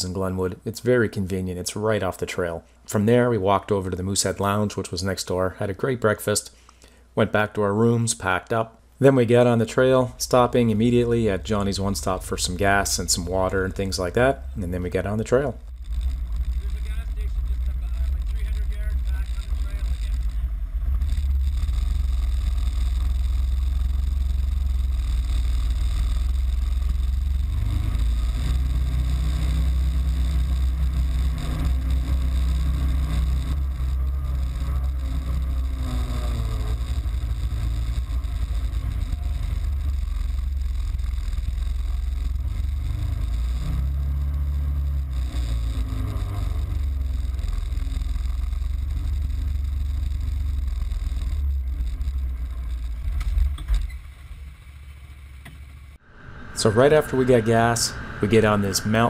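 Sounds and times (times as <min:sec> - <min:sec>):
utility vehicle engine droning: 0:09.1 - 0:59.0.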